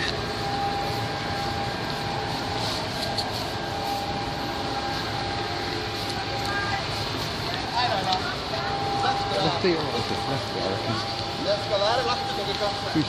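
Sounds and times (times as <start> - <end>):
faint whine: 0.0 - 13.0
mechanical hum: 0.0 - 13.0.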